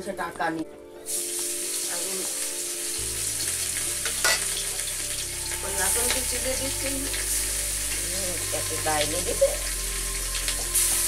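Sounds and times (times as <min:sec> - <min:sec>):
food sizzling in hot oil: 0:01.1 - 0:11.0
oil crackling: 0:01.1 - 0:11.0.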